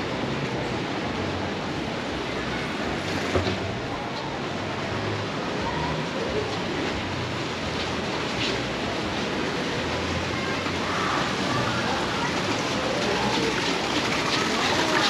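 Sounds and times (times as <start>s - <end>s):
faint voices: 0.0s - 15.0s
fountain water splashing: 0.0s - 15.0s.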